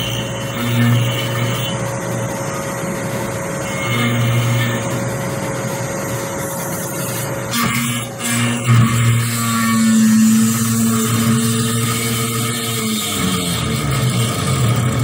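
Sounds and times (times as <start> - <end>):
end mill cutting metal: 0.0 - 15.0
router spindle whine: 0.0 - 15.0.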